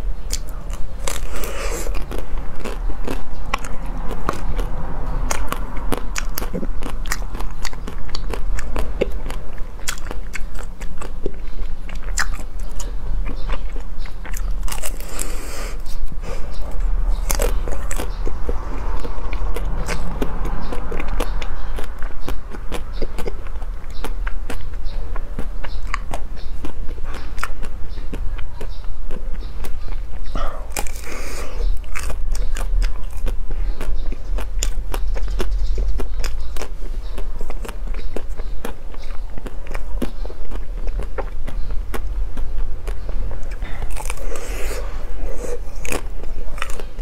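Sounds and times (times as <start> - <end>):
chewing crunchy ice cream: 0.0 - 47.0
mouth clicks: 0.0 - 47.0.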